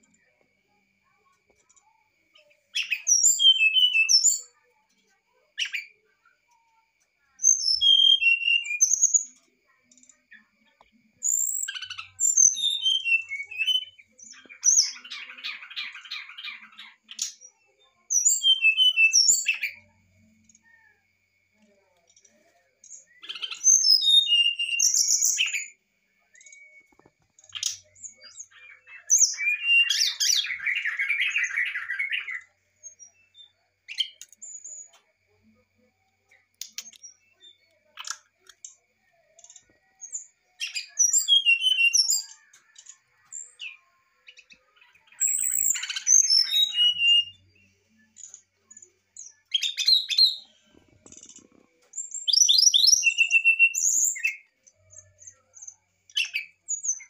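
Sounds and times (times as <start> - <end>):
bird singing flute-like song: 1.8 - 4.7, 7.4 - 9.4, 11.2 - 21.0, 22.8 - 57.0.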